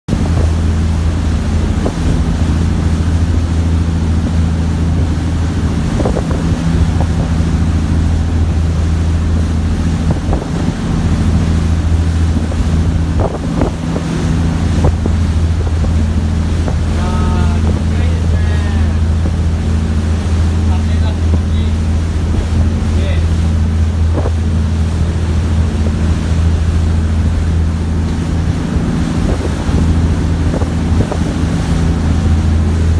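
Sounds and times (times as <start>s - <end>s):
ferry engine droning: 0.1s - 32.9s
water washing: 0.1s - 32.9s
wind on microphone: 0.1s - 32.9s.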